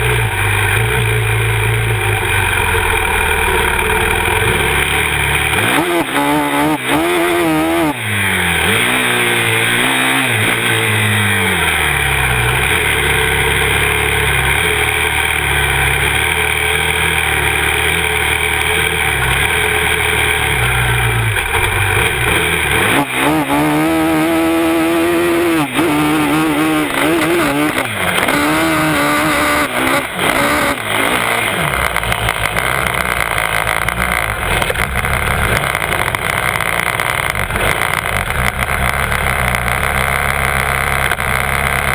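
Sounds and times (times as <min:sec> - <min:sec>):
quad engine revving: 0:00.0 - 0:41.9.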